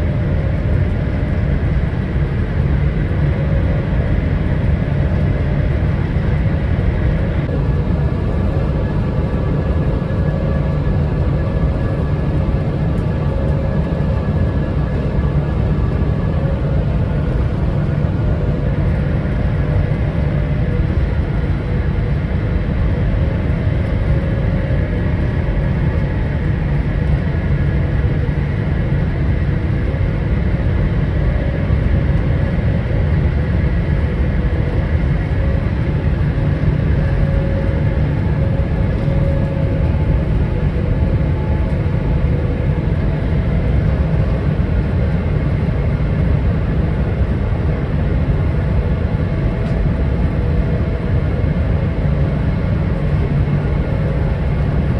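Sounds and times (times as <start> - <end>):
faint hum: 0.0 - 54.9
jet cabin engine rumble: 0.0 - 54.9.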